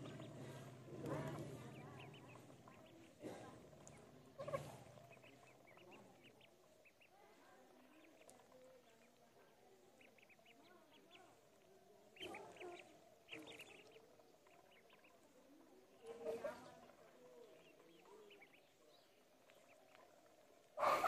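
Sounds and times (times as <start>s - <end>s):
ducklings peeping: 0.0s - 21.0s.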